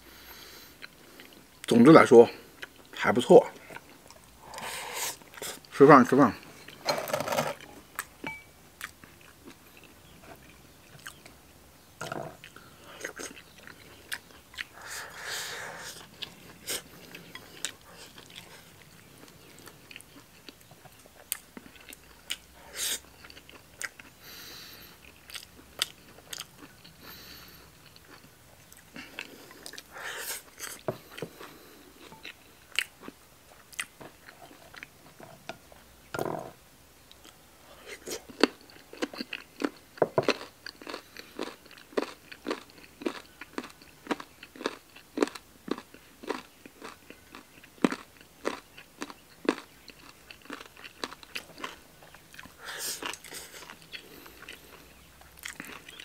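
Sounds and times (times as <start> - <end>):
person chewing food: 0.6 - 1.7, 2.5 - 2.9, 6.6 - 11.4, 12.0 - 35.9, 37.1 - 56.0.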